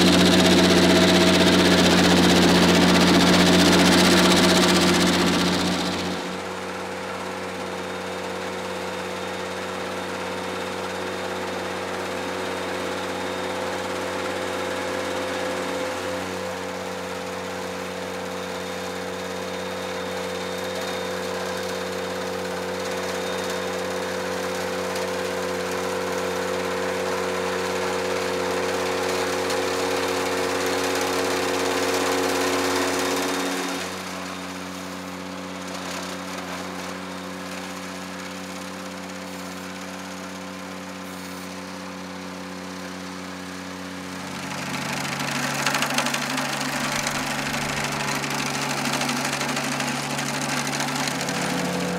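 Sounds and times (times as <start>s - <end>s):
mower rushing noise: 0.0s - 7.9s, 14.6s - 51.9s
tractor engine running: 0.0s - 51.9s.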